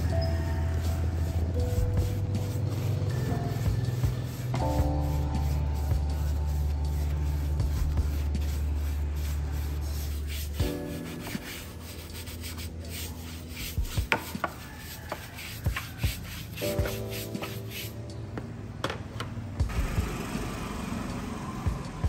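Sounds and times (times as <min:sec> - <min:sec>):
brush scrubbing: 0:00.0 - 0:18.0
background music: 0:00.0 - 0:22.0.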